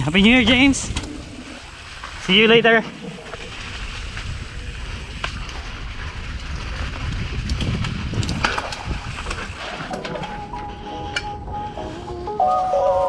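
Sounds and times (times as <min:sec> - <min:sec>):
wind on microphone: 0:00.0 - 0:02.2, 0:02.8 - 0:13.0
bike rattling over bumps: 0:00.0 - 0:10.7
bike tyres rumbling over dirt: 0:00.0 - 0:10.7.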